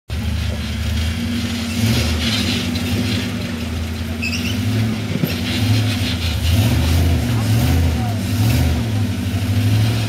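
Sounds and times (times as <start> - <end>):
car engine running at low revs: 0.1 - 10.0.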